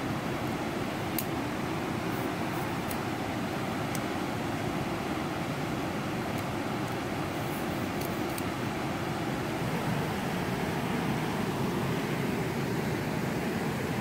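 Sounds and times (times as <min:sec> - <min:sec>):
river water over waterfall: 0:00.0 - 0:14.0.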